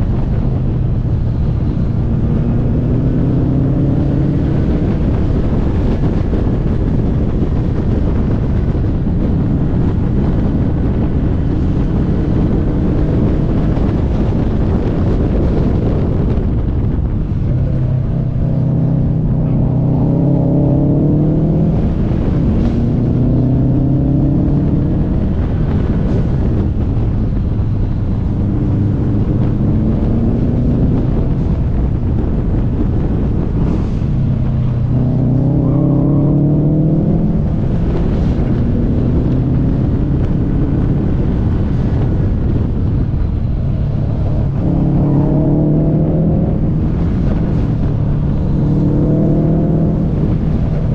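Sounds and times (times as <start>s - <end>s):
car engine revving: 0.0s - 50.9s
road and wind noise: 0.0s - 50.9s.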